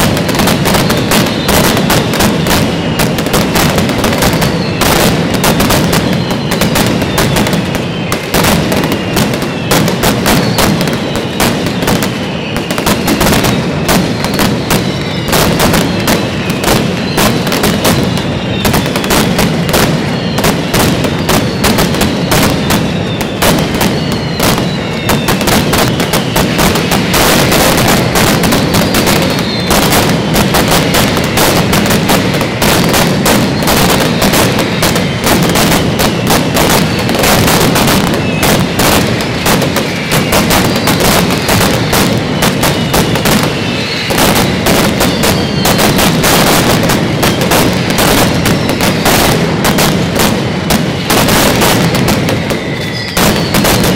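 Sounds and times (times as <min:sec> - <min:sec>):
firecrackers banging: 0:00.0 - 0:53.9
whistling firecrackers: 0:00.0 - 0:53.9.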